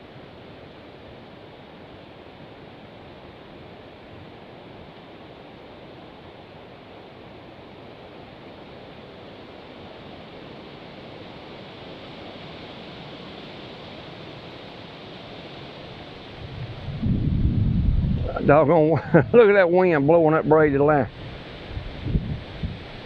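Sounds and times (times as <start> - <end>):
strong wind through trees: 0.0 - 23.0.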